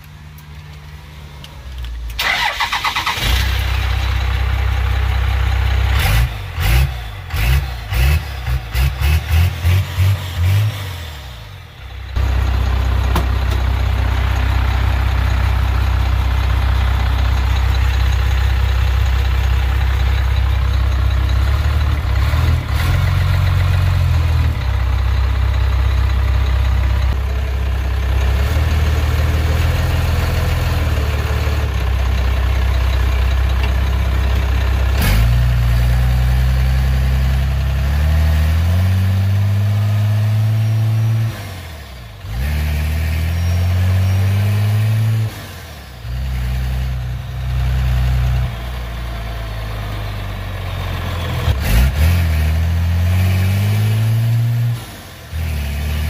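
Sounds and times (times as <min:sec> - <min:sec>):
pickup truck engine droning: 0:00.0 - 0:56.0.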